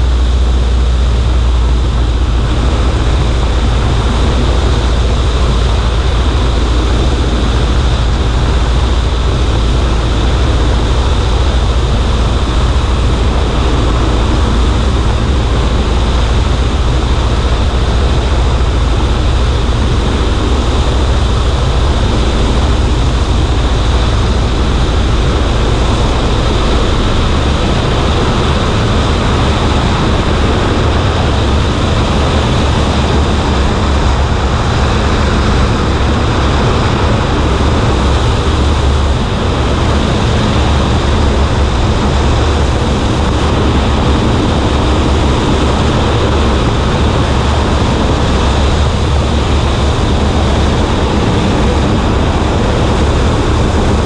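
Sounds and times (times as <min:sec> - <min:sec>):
airplane engine and propeller: 0:00.0 - 0:54.0
wind rush: 0:00.0 - 0:54.0.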